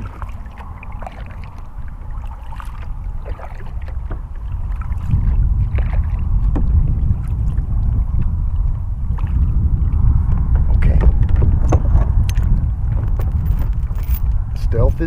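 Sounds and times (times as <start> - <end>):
kayak paddle stroking water: 0.0 - 13.3
wind rumble on microphone: 0.0 - 15.0.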